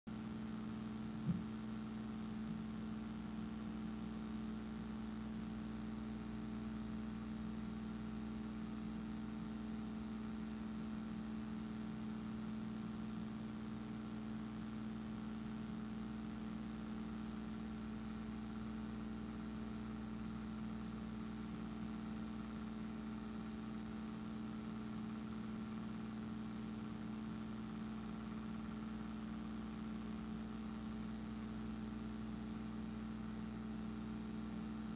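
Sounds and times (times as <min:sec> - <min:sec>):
steady hum with tones: 0:00.1 - 0:34.9.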